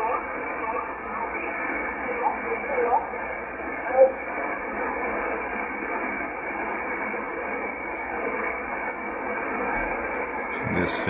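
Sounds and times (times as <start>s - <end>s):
shortwave radio static hiss: 0.0s - 11.0s.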